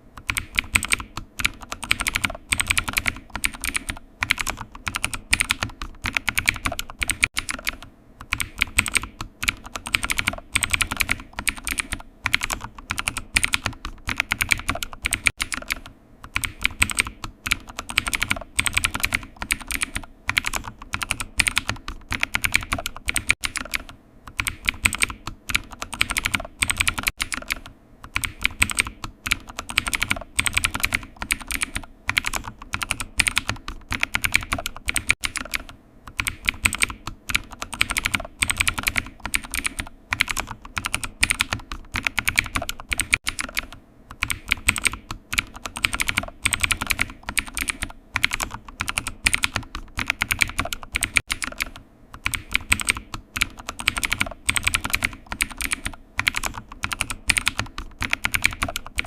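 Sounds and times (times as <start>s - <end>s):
keyboard typing: 0.2s - 59.0s.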